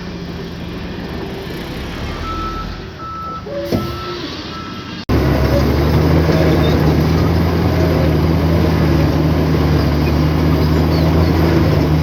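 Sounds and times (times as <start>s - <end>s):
heavy diesel engine droning: 0.0s - 12.0s.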